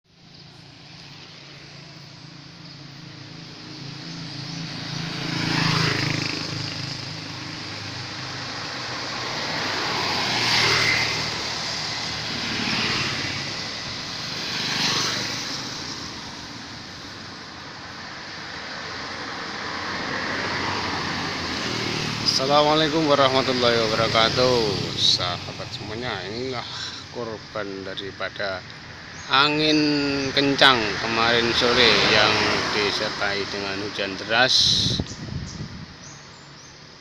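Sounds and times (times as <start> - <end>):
steady traffic drone: 0.0 - 37.0
vehicles passing by: 0.1 - 37.0.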